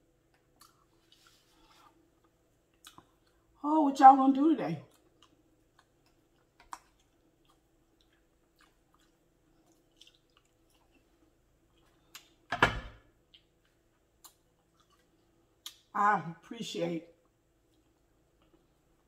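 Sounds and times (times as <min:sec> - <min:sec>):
chewing soft food: 0:00.1 - 0:03.6, 0:04.8 - 0:12.5, 0:13.2 - 0:15.9, 0:17.1 - 0:19.0.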